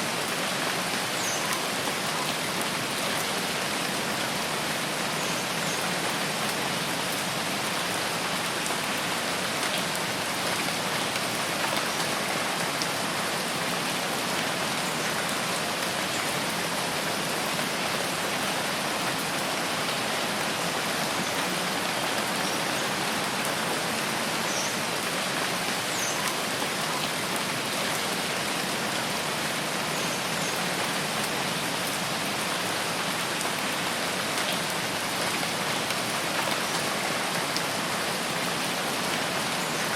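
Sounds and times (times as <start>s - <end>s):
rain falling in a forest: 0.0s - 39.9s.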